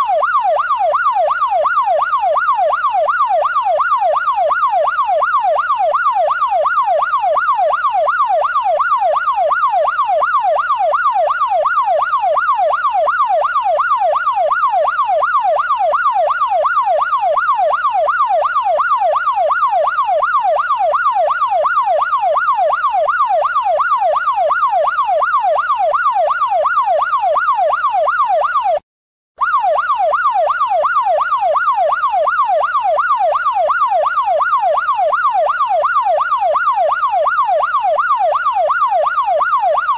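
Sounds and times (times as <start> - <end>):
police siren yelping: 0.0 - 28.8, 29.4 - 39.9.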